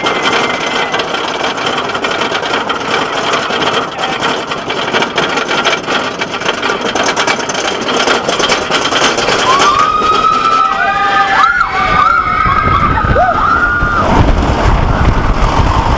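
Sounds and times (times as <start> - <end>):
roller coaster rattling over track: 0.0 - 15.9.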